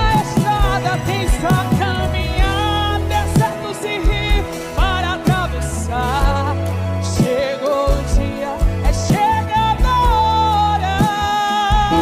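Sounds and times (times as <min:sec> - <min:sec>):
gospel band playing: 0:00.0 - 0:12.0.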